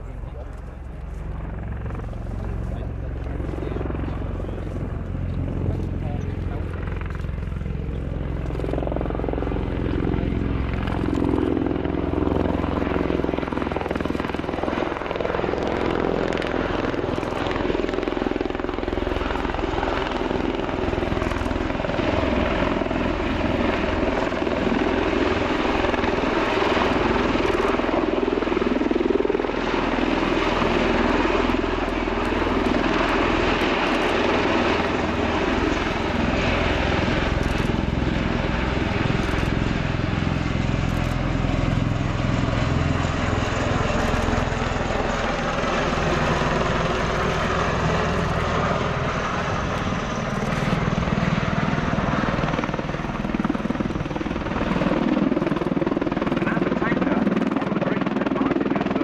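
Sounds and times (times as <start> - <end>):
tiltrotor rotor and turbine noise: 0.0 - 59.0.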